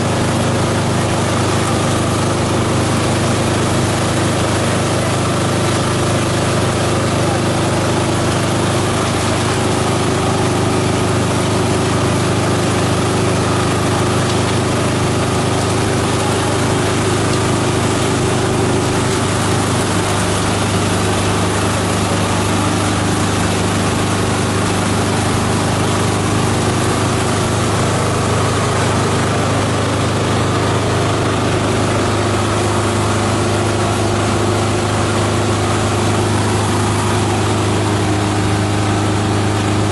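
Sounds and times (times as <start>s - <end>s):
shredder machine humming: 0.0s - 39.9s.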